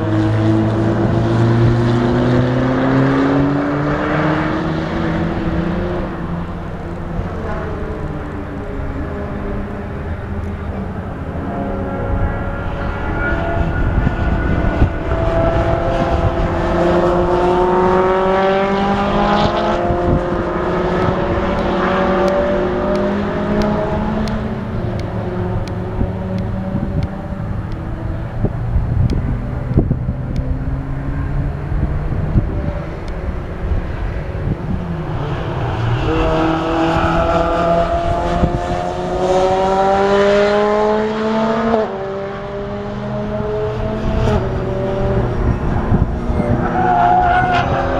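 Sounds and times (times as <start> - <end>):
racing car engines accelerating: 0.0 - 47.9.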